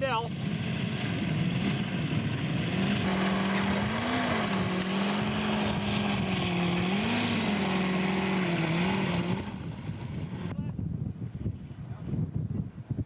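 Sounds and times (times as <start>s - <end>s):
model aircraft engine running: 0.0s - 10.6s.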